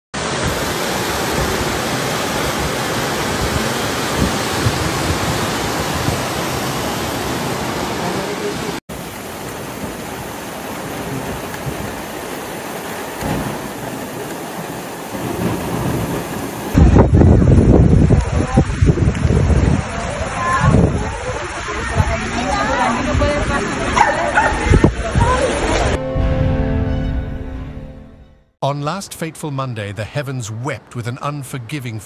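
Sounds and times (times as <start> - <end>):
floodwater rushing: 0.2 - 26.6.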